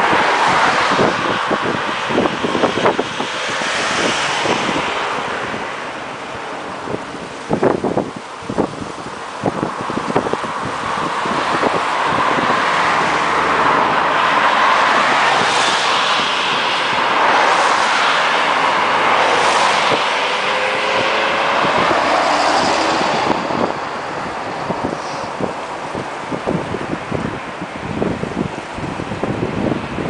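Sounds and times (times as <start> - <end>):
cars passing: 0.0 - 30.0
jet airliner roar: 0.0 - 30.0.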